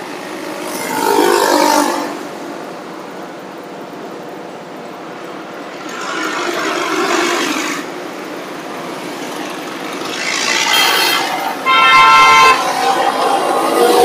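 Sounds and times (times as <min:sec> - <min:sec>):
vehicle passing close: 0:00.0 - 0:03.1, 0:05.3 - 0:14.0
road traffic: 0:00.0 - 0:14.0.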